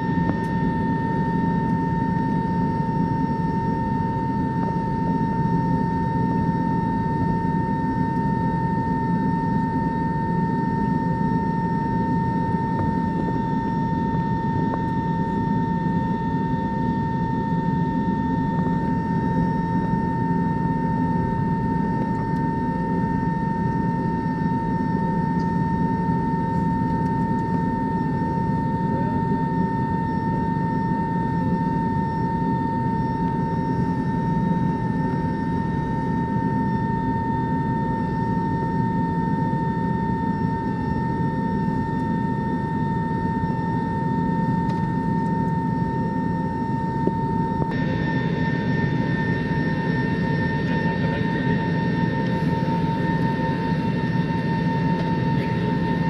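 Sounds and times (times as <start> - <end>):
jet engine high whine: 0.0 - 56.0
jet engine rumble in cabin: 0.0 - 56.0.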